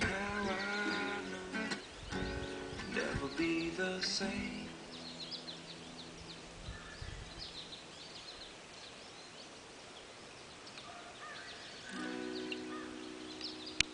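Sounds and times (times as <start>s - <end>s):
faint outdoor hiss: 0.0s - 13.9s
small birds chirping: 0.0s - 13.9s.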